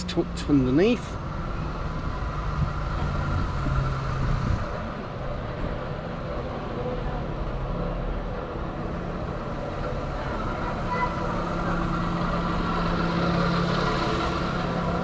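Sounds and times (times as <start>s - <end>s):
busy street noise: 0.0s - 15.0s.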